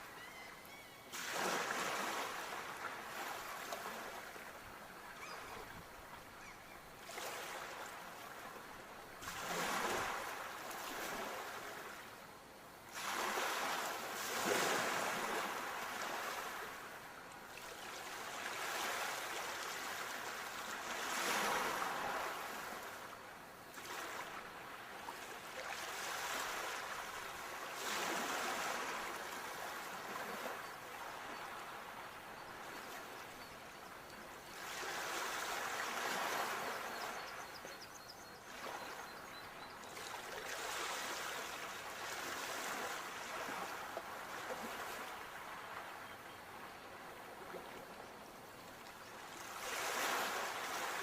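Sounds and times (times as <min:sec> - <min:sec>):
sea waves breaking on shore: 0:01.1 - 0:04.6, 0:07.1 - 0:08.6, 0:09.2 - 0:12.0, 0:12.9 - 0:33.3, 0:34.5 - 0:37.5, 0:39.9 - 0:47.9, 0:48.7 - 0:51.0.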